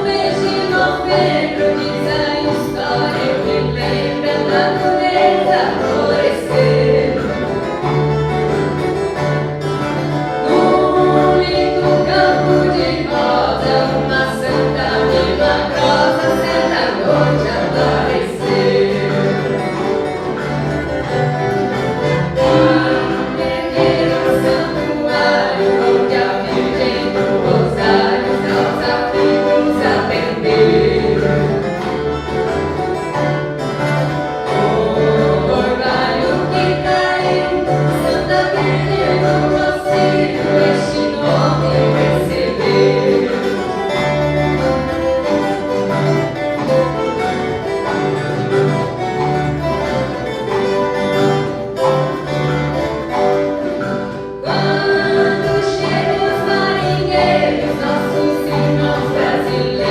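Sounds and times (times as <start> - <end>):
group of voices singing: 0.0 - 47.5, 53.1 - 59.9
guitar orchestra playing: 0.0 - 59.9.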